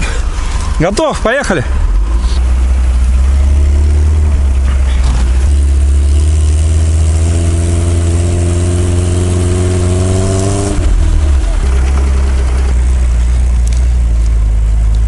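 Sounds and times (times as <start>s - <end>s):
off-road vehicle engine pulling away: 0.0s - 15.0s.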